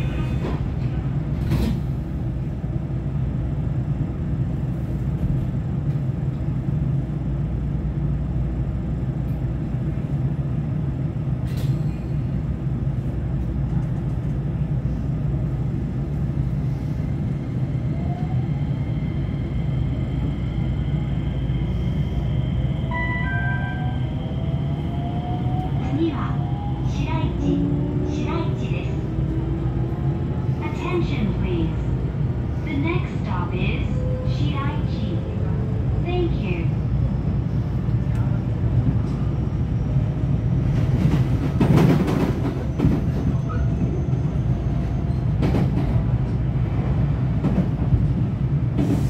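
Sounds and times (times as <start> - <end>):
train low hum: 0.0 - 49.0.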